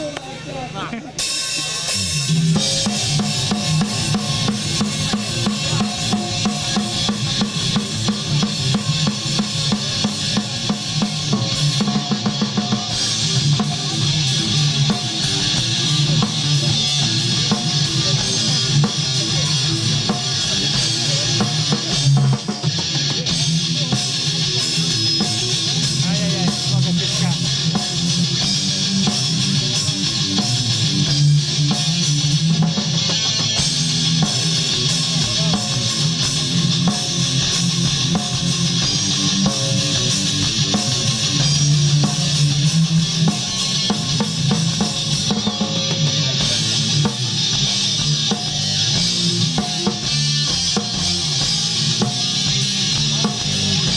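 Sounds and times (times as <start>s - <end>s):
rock band playing live: 0.0s - 53.9s
bass drum and snare beating: 2.3s - 22.6s, 23.4s - 53.9s.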